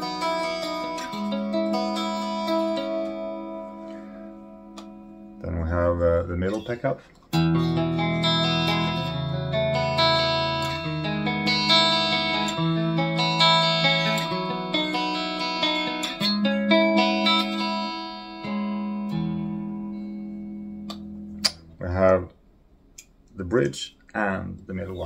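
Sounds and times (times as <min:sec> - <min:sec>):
clean electric guitar notes and chords: 0:00.0 - 0:05.7, 0:07.3 - 0:21.9.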